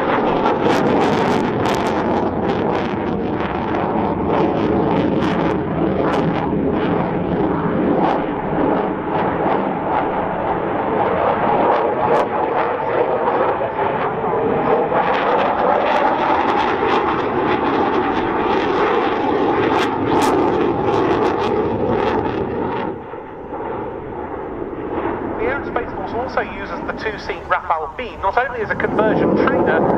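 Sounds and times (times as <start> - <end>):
jet fighter engines roaring: 0.0 - 29.9.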